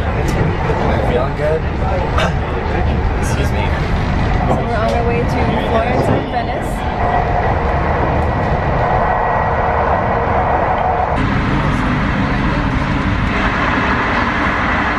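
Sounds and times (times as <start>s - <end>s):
train rumbling from inside carriage: 0.0s - 14.9s.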